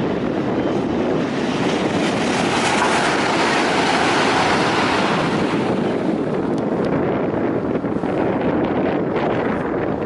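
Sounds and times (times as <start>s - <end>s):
electric train wheel rumble: 0.0s - 10.0s.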